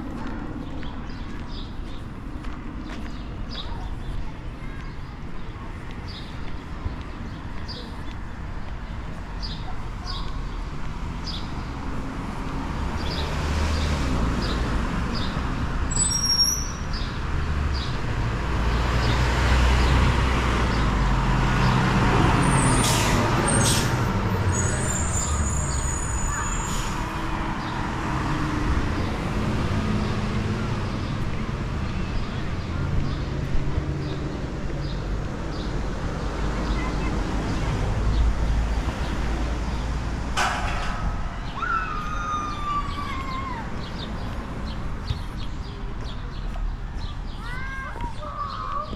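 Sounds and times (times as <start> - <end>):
street traffic: 0.0 - 48.9
vehicle engine rumble: 0.0 - 48.9.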